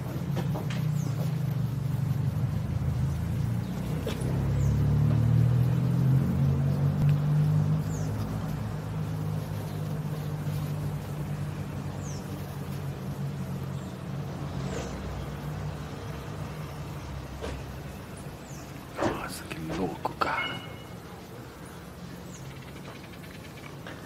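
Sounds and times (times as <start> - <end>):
bee swarm buzzing: 0.0 - 22.2.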